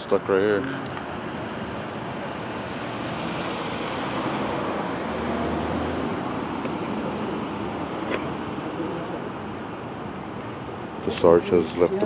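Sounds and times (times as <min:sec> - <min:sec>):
street traffic roar: 0:00.0 - 0:12.0.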